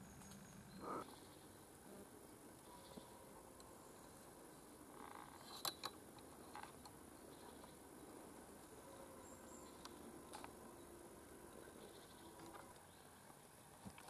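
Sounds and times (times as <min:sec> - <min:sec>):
faint woodland ambience: 0:00.0 - 0:14.0.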